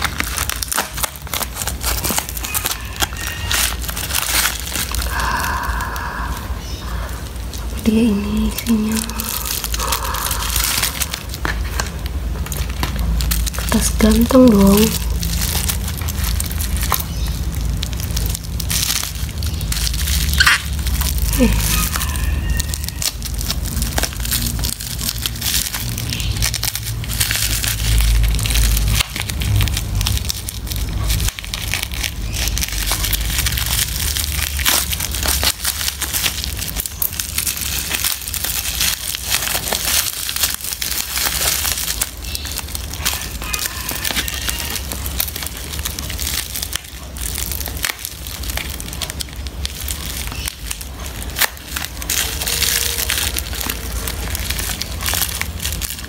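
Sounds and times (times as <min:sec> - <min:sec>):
bubble wrap crinkling: 0:00.0 - 0:56.0
low handling rumble: 0:00.0 - 0:56.0.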